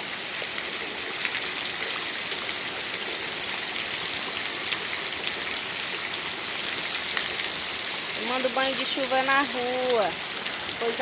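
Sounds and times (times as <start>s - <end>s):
rain falling: 0.0s - 11.0s
raindrops ticking close by: 0.0s - 11.0s.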